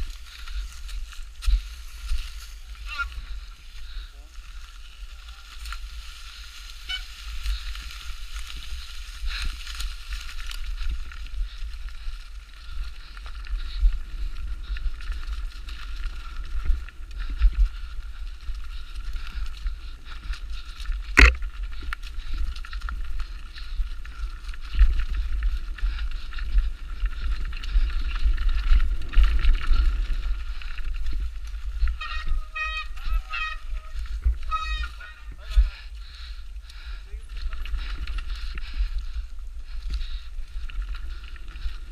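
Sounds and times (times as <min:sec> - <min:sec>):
bike tyres rumbling on trail: 0:00.0 - 0:41.9.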